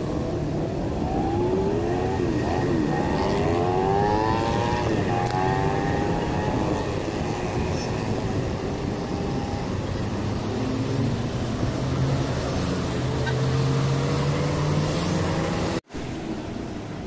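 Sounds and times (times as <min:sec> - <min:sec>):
steady rushing noise: 0:00.0 - 0:17.0
vehicle engine humming: 0:00.0 - 0:17.0.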